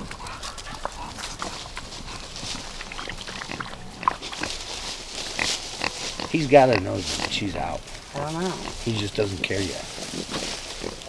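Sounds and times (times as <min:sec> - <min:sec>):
pigs clicking knocking rustling: 0:00.0 - 0:11.0.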